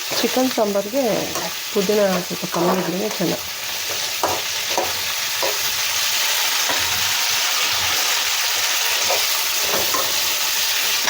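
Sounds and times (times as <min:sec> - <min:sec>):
food sizzling in a hot pan: 0:00.0 - 0:11.0.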